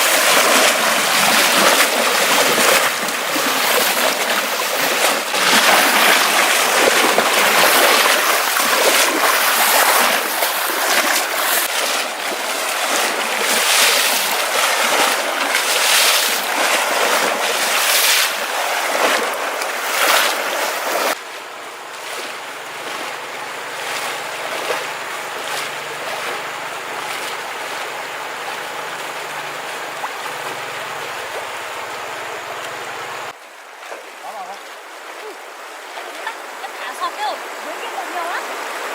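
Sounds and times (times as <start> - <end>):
water rushing and splashing: 0.0 - 38.9.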